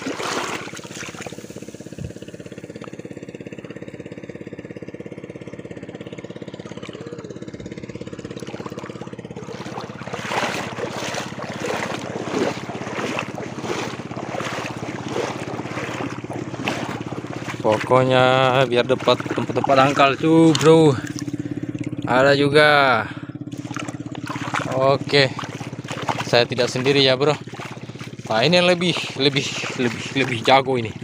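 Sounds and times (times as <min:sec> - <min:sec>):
shallow water splashing: 0:00.0 - 0:31.0
small engine running: 0:00.0 - 0:31.0.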